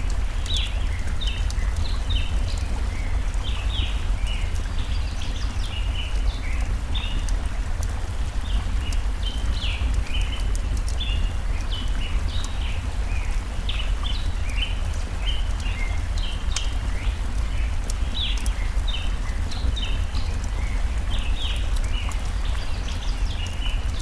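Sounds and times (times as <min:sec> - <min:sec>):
songbirds chirping: 0:00.0 - 0:24.0
stream flowing: 0:00.0 - 0:24.0
wood fire crackling: 0:00.0 - 0:24.0.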